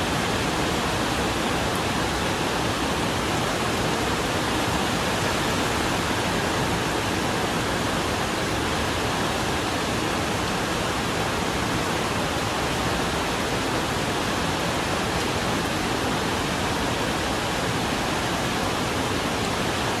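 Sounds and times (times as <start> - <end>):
rain on a metal roof: 0.0 - 20.0.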